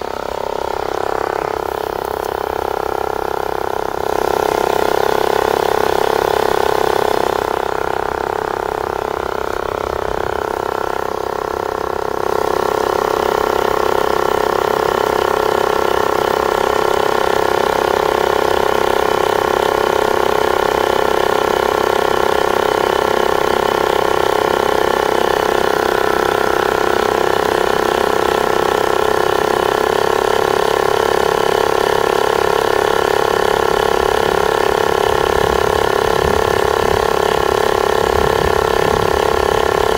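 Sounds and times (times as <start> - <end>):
tyre inflator compressor humming: 0.0 - 39.9.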